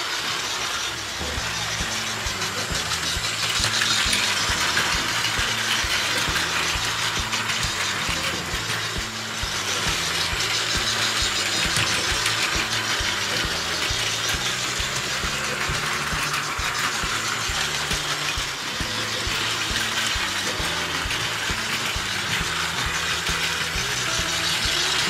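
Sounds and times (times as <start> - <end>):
toy train motors whirring: 0.0 - 25.0
wheels clicking over track joints: 0.0 - 25.0.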